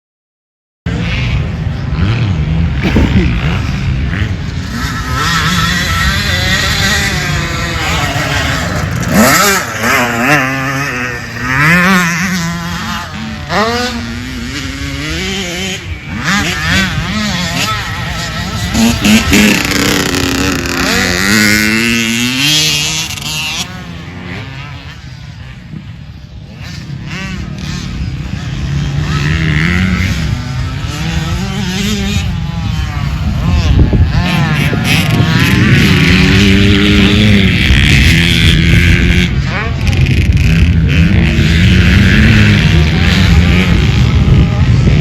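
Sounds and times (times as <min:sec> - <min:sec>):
dirt bike engine revving: 0:00.9 - 0:45.0.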